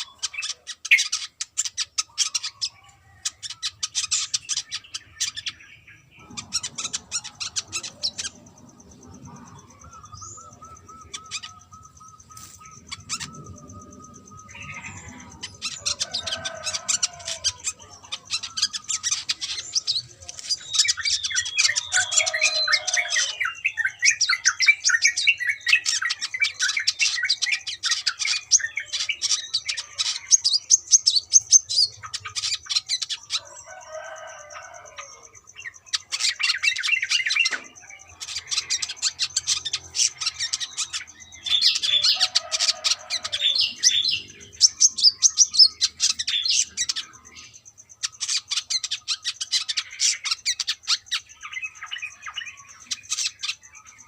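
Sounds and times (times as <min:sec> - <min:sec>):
sunbird twittering song: 0:00.0 - 0:54.0.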